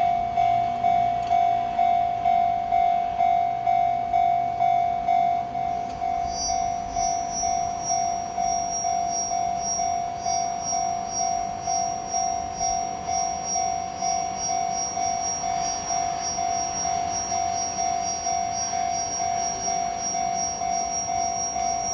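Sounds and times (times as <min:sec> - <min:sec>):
level-crossing warning bell: 0:00.0 - 0:21.9.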